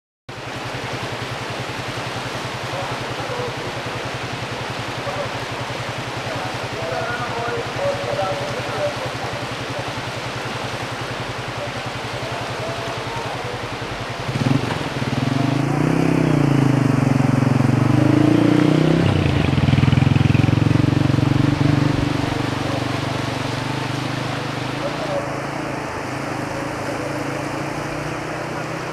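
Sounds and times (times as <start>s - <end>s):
steady rushing noise: 0.3s - 28.9s
vehicle engine throbbing: 0.4s - 28.9s.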